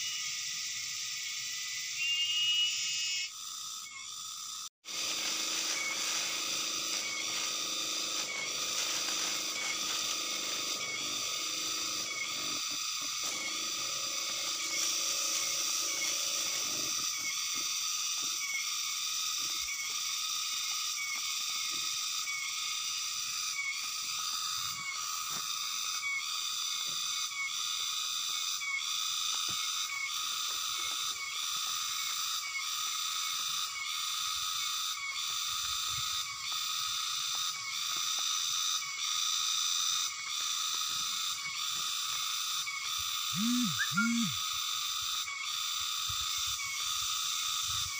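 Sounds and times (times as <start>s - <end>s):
insects droning: 0.0s - 47.9s.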